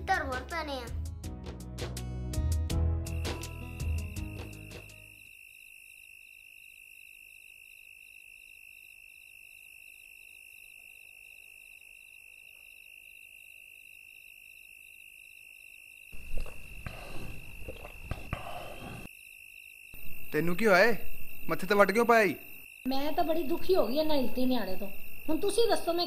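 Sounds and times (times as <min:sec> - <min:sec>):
crickets chirping: 0:03.1 - 0:26.0.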